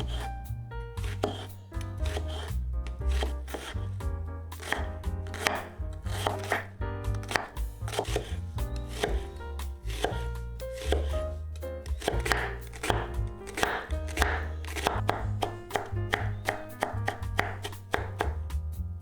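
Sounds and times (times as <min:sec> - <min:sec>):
knife chopping on cutting board: 0:00.0 - 0:00.4, 0:01.0 - 0:18.6
background music with bass line: 0:00.0 - 0:19.0.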